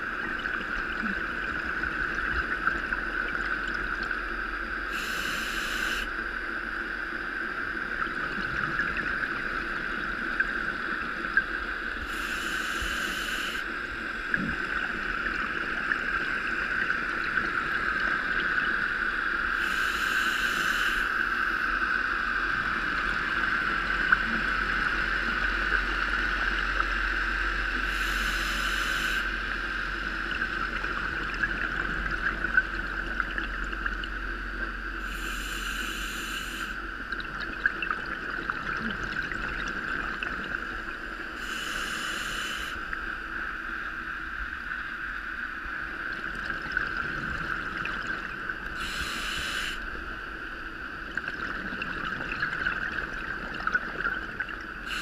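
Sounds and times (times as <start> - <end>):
steady muffled hum: 0.0 - 55.0.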